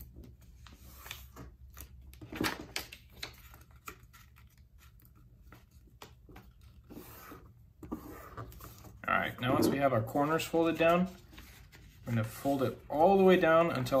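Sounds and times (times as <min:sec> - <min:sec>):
paper being folded and creased: 0:00.1 - 0:09.4, 0:10.1 - 0:14.0.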